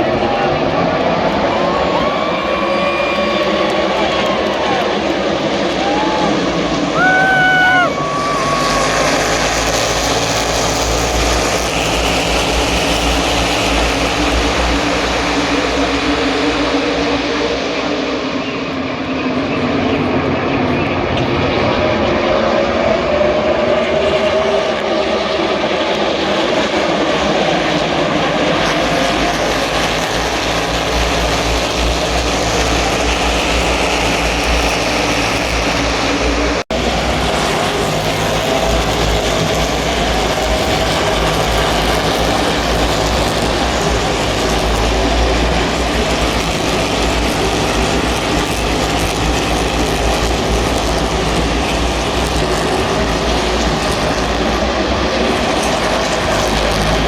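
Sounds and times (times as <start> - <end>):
race car engines at speed: 0.0 - 57.0.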